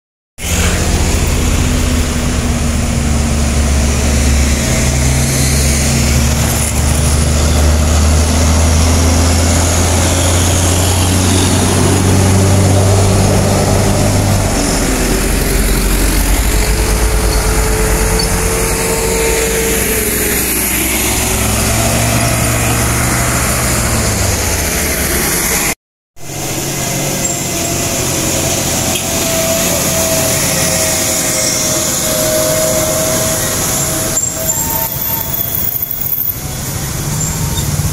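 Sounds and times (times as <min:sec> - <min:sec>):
diesel truck engines droning: 0:00.4 - 0:37.9.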